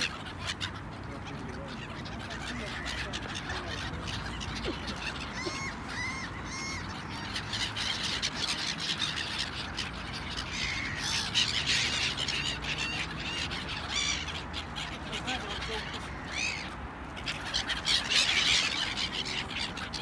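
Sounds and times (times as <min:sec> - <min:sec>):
gulls squawking: 0:00.0 - 0:20.0.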